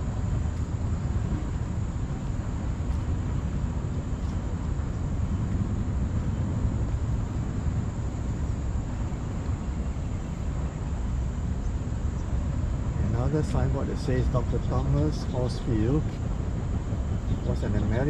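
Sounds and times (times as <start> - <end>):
faint hiss: 0.0 - 18.0.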